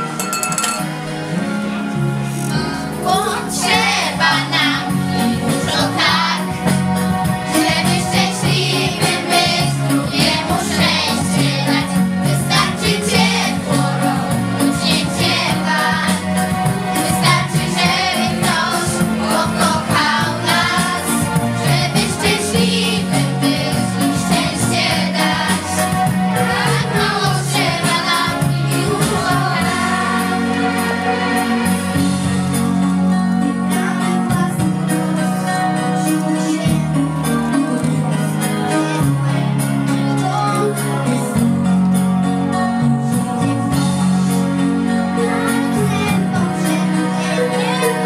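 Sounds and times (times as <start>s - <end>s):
instrumental backing track: 0.0s - 48.0s.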